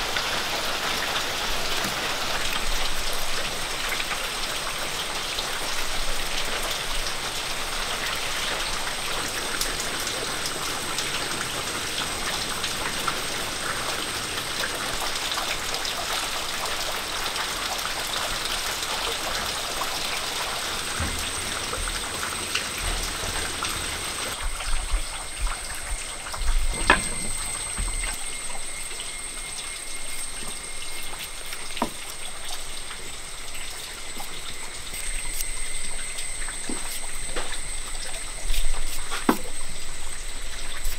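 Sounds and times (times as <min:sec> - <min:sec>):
rain patter: 0:00.0 - 0:40.9
thin high whine: 0:00.1 - 0:40.9.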